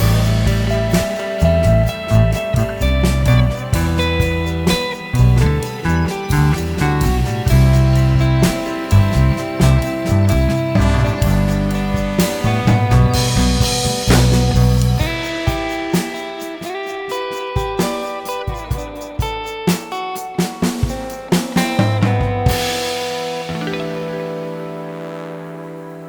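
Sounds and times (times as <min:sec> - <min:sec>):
drum kit beat: 0:00.0 - 0:26.0
guitar: 0:00.0 - 0:26.0.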